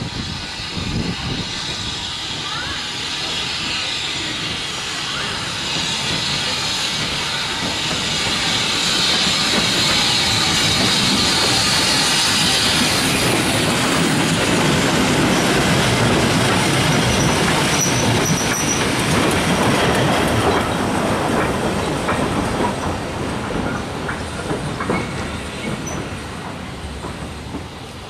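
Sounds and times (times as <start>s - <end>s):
steam hissing: 0.0s - 28.0s.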